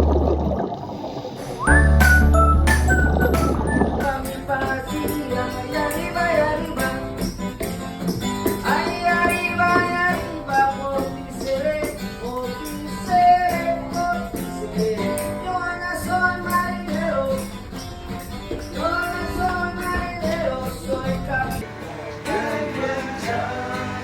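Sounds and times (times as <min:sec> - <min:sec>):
percussion beat: 0:01.6 - 0:21.6
song with singing and guitar: 0:01.6 - 0:24.0.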